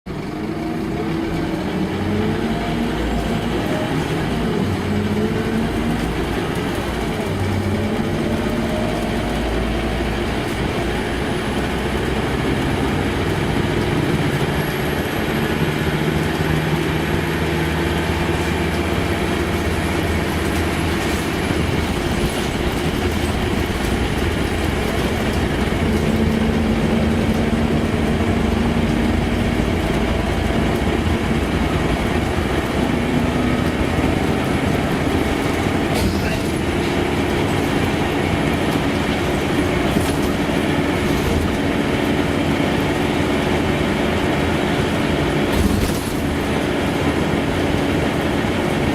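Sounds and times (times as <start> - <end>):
bus diesel engine running: 0.1 - 48.9
road noise: 0.1 - 48.9.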